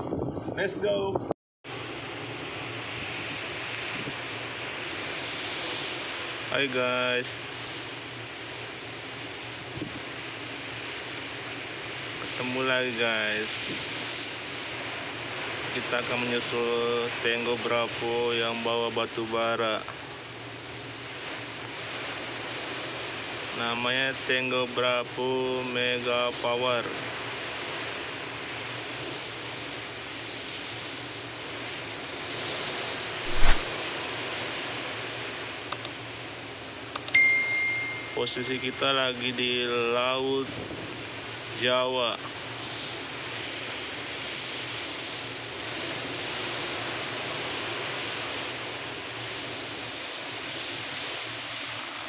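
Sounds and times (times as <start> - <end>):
wind: 0.0 - 52.0
sea water rushing: 1.8 - 52.0.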